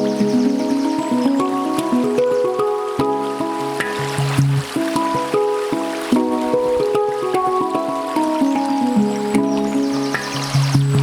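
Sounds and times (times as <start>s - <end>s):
handpan notes ringing: 0.0s - 11.0s.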